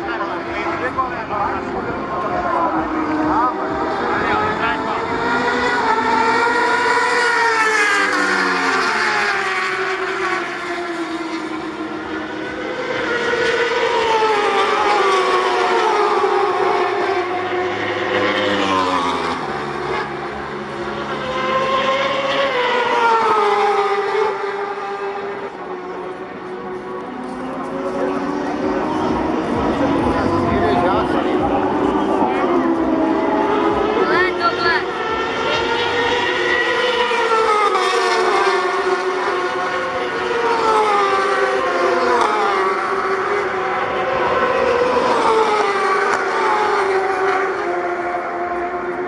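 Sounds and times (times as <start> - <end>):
motorcycle engine at high revs: 0.1 - 49.0.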